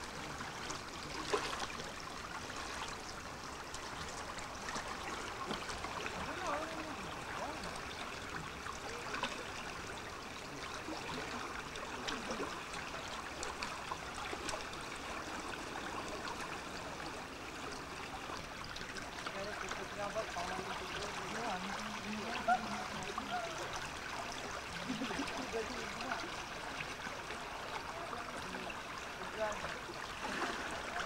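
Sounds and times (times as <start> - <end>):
river water rushing and rippling: 0.0 - 31.0.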